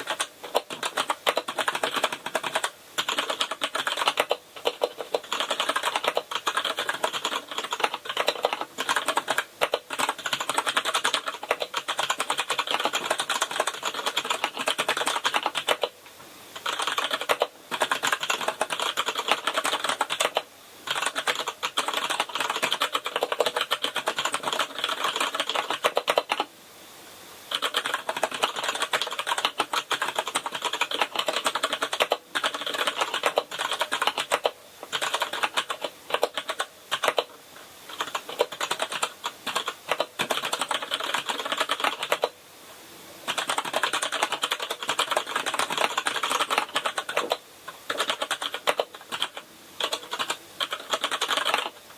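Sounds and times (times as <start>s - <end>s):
mechanical keyboard typing: 0.0s - 16.0s, 16.6s - 26.5s, 27.5s - 42.4s, 43.3s - 51.9s.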